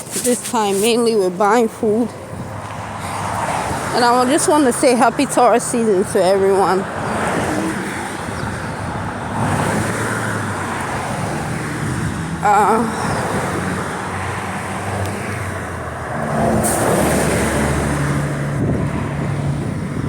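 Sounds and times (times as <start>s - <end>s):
motor vehicle engine rumble: 0.0s - 20.0s.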